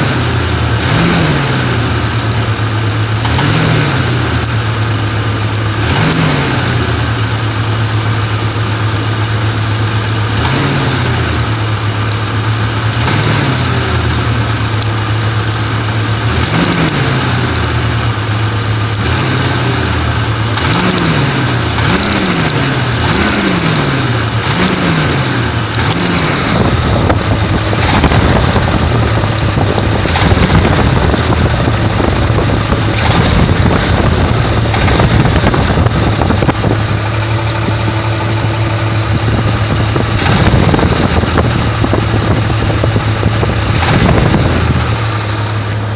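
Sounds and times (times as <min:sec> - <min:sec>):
car engine idling with throttle blips: 0:00.0 - 0:45.9.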